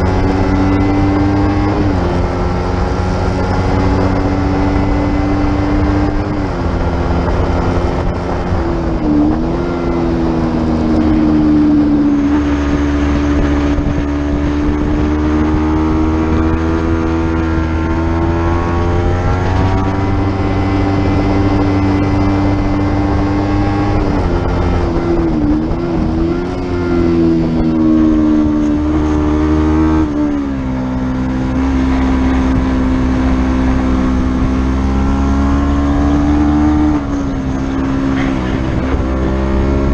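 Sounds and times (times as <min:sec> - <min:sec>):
racing motorcycle engine revving high: 0:00.0 - 0:39.9.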